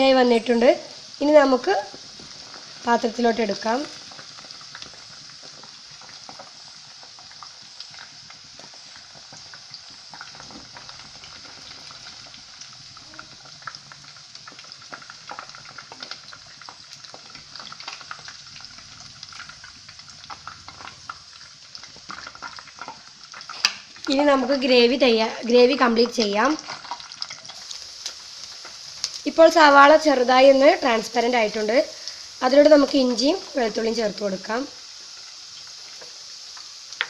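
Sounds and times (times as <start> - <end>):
oil sizzling and crackling: 0.0 - 37.0.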